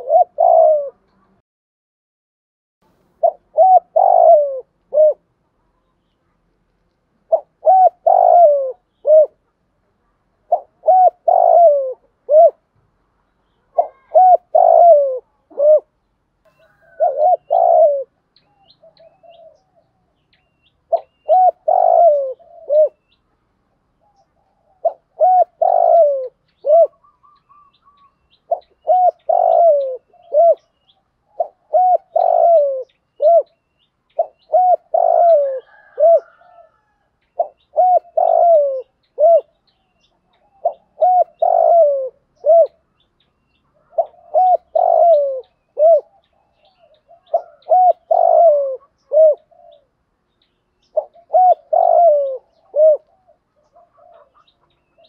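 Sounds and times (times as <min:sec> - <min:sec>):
dove cooing: 0:00.0 - 0:01.2, 0:03.2 - 0:05.3, 0:07.2 - 0:09.6, 0:10.4 - 0:12.7, 0:13.6 - 0:23.2, 0:23.8 - 0:43.0, 0:43.6 - 0:50.1, 0:50.8 - 0:55.0.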